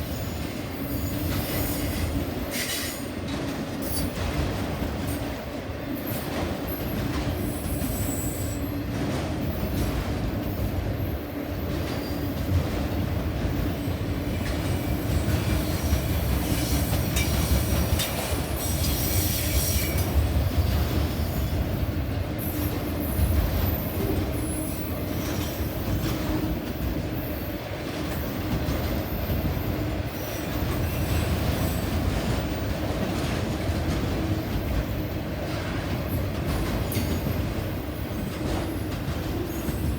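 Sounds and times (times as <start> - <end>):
rumble of steel wheels on rail: 0.0 - 39.9.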